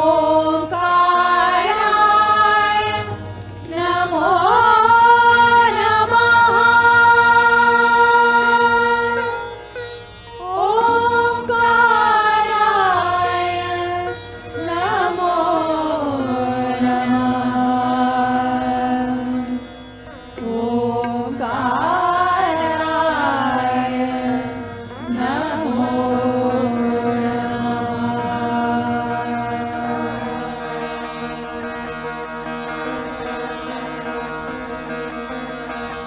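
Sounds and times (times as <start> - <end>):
person singing devotional song: 0.0 - 9.6, 10.2 - 36.0
steady low drone: 0.0 - 36.0.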